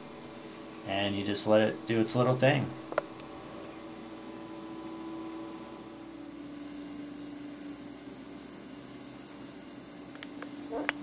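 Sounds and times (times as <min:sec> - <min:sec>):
electrical hum: 0:00.0 - 0:11.0
thin high-pitched whine: 0:00.0 - 0:11.0.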